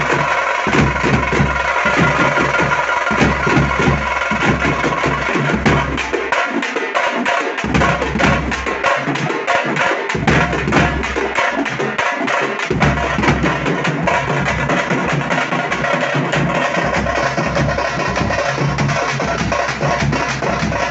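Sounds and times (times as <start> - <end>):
frame drums fast rhythm: 0.0 - 20.9.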